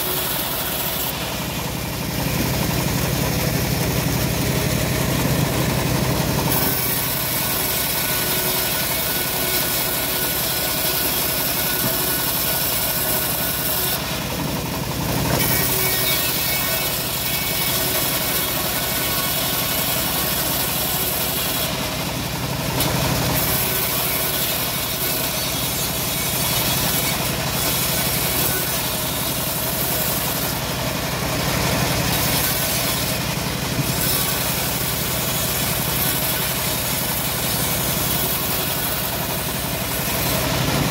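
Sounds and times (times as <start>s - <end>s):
bandsaw blade cutting wood: 0.0s - 40.9s
engine drone: 0.0s - 40.9s.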